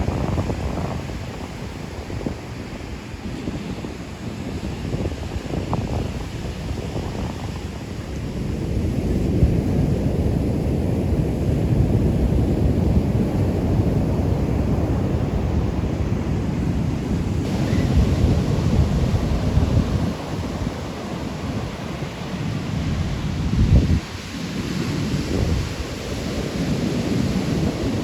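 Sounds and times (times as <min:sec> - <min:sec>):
ocean surf washing onto beach: 0:00.0 - 0:28.0
wind buffeting microphone: 0:00.0 - 0:28.0.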